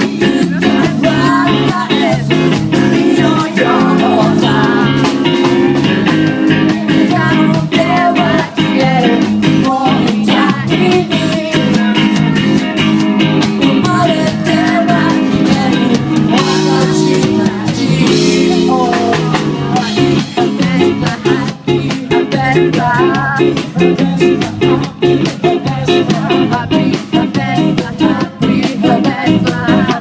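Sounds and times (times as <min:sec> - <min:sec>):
bending melody line: 0:00.0 - 0:30.0
guitars: 0:00.0 - 0:30.0
steady drum beat: 0:00.0 - 0:30.0.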